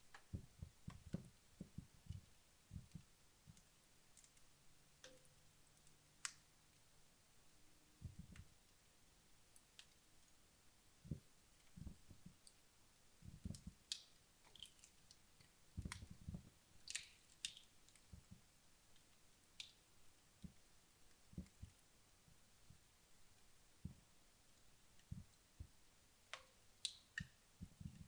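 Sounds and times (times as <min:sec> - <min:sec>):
fireplace fire crackling: 0:00.0 - 0:28.0.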